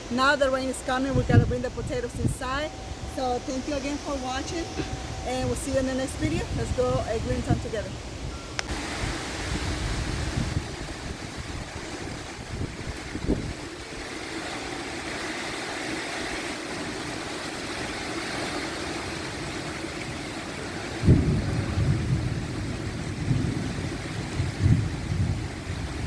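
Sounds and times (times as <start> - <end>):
steady outdoor hiss: 0.0 - 26.0
wind buffeting microphone: 0.0 - 26.0.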